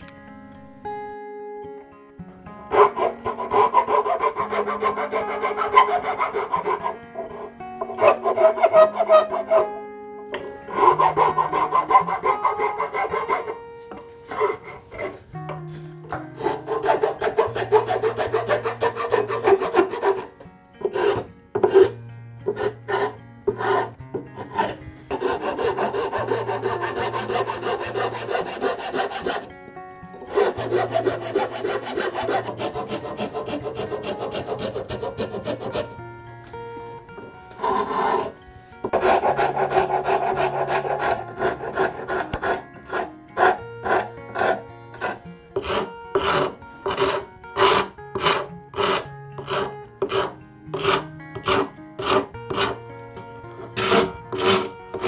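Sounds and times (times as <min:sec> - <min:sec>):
soft background music: 0:00.0 - 0:55.0
hand file rasping on wood: 0:02.7 - 0:09.7, 0:10.4 - 0:15.2, 0:16.1 - 0:29.5, 0:30.2 - 0:36.0, 0:37.6 - 0:52.8, 0:53.6 - 0:55.0.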